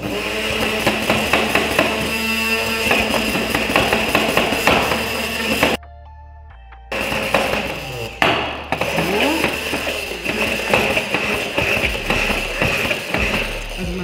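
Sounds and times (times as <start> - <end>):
immersion blender whining: 0.0 - 5.8, 6.9 - 14.0.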